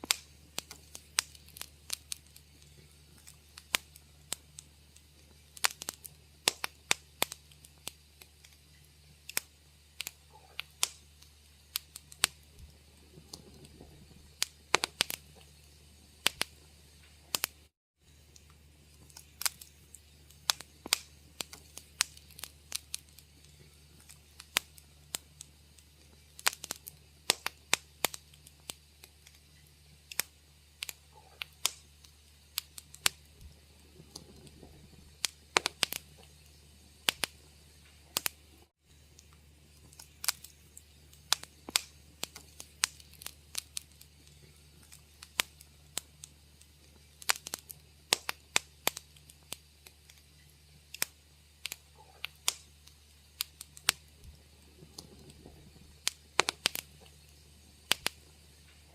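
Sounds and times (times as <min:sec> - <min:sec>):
low steady hum: 0:00.0 - 0:58.9
wood fire crackling: 0:00.0 - 0:58.9.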